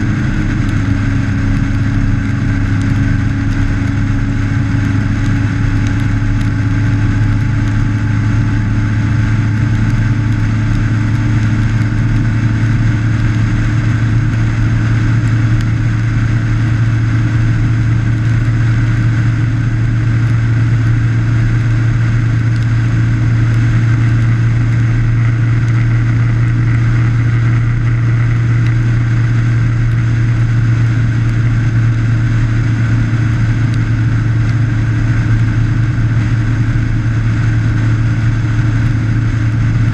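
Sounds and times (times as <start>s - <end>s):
motorcycle engine running: 0.0s - 39.9s
tyres on wet road: 0.0s - 39.9s.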